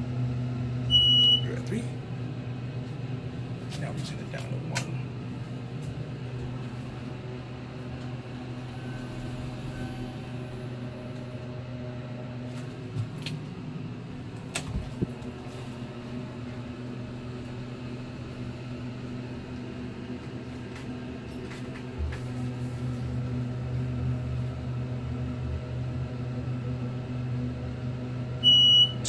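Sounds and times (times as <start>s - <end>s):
elevator pump motor humming: 0.0s - 29.0s.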